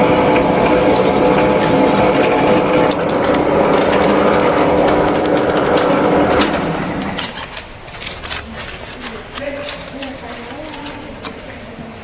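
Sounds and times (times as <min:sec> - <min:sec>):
lathe motor humming: 0:00.0 - 0:11.2.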